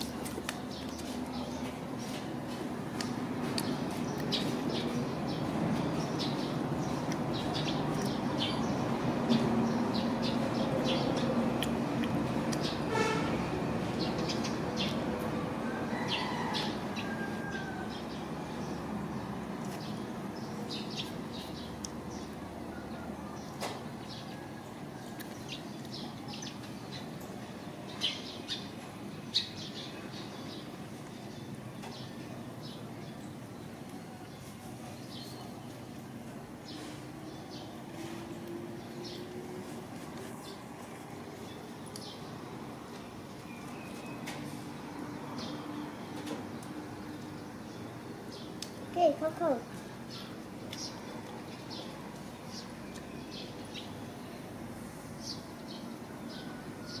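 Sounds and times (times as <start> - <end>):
small birds chirping: 3.0 - 12.9, 16.1 - 24.4, 25.0 - 57.0.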